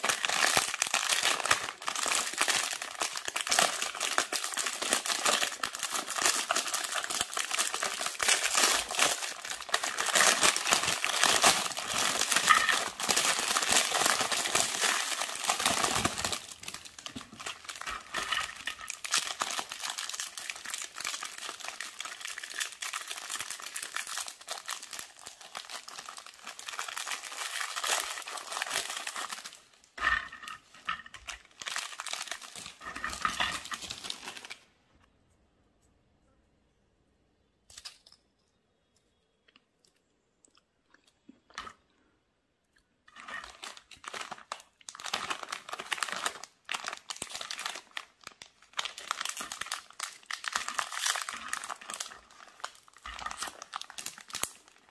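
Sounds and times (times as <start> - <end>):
plastic wrappers crinkling: 0.0 - 34.7, 43.1 - 54.9.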